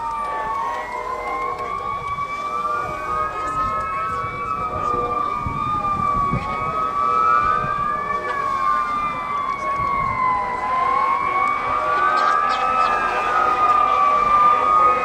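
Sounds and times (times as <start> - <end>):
fire truck sirens wailing: 0.0 - 15.0.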